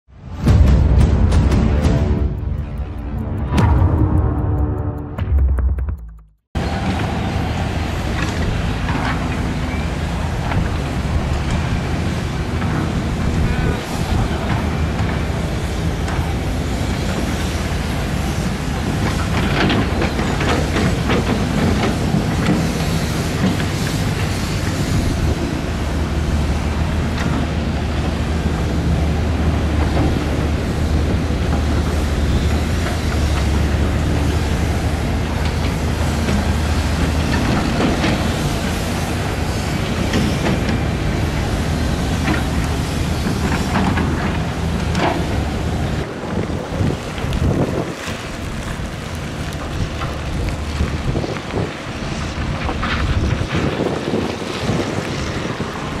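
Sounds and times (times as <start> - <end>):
diesel engine of tracked machinery: 6.6 - 56.0.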